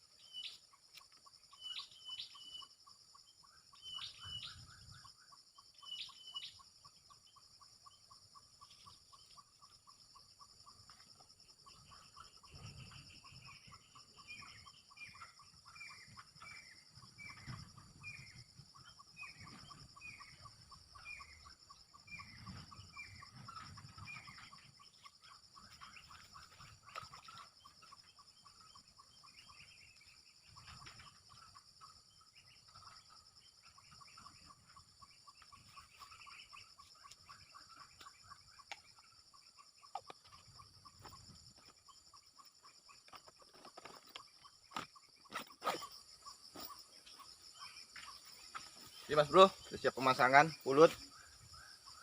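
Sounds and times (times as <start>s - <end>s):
small bird chirping: 0.0s - 52.0s.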